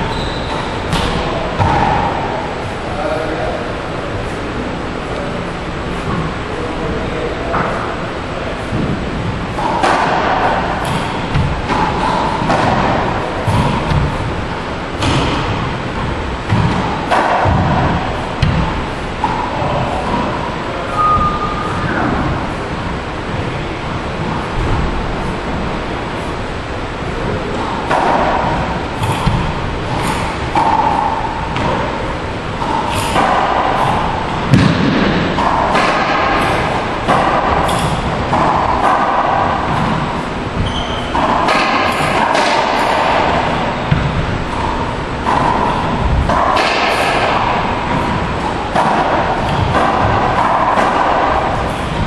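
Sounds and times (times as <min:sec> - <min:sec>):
racquetball thuds echoing: 0:00.0 - 0:04.3, 0:07.5 - 0:52.0.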